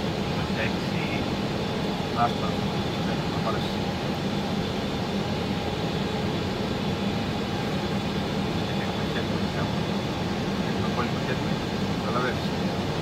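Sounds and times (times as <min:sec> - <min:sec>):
airplane cockpit drone: 0:00.0 - 0:13.0.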